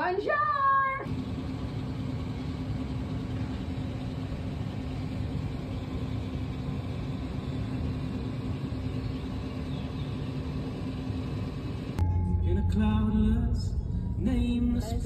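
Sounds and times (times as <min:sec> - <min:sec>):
car cabin road and engine noise: 0:00.3 - 0:15.0.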